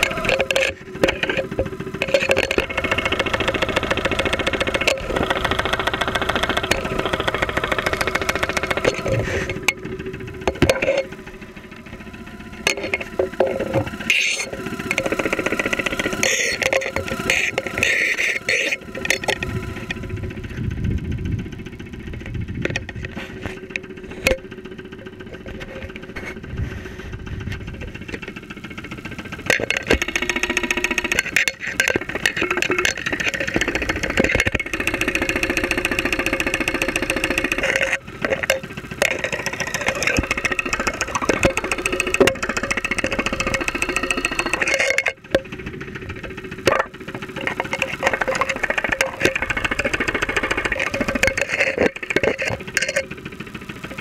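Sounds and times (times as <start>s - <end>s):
car engine knocking: 0.0s - 54.0s.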